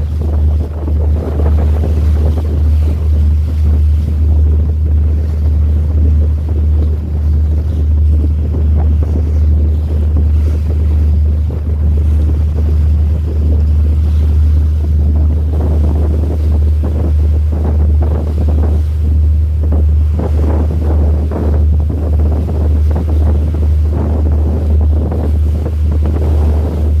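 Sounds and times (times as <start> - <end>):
deep rumble: 0.0 - 27.0
wind buffeting microphone: 0.0 - 27.0.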